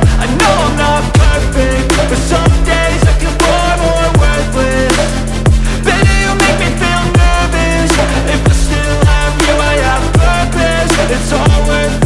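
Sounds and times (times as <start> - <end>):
electronic music with heavy beat: 0.0 - 12.0.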